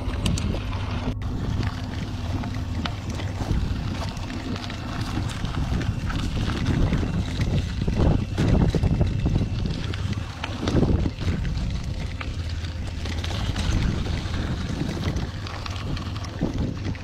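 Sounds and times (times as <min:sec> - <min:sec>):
bike tyres rumbling: 0:00.0 - 0:17.0
wind buffeting microphone: 0:00.0 - 0:17.0
bike rattling and clicking: 0:02.8 - 0:17.0.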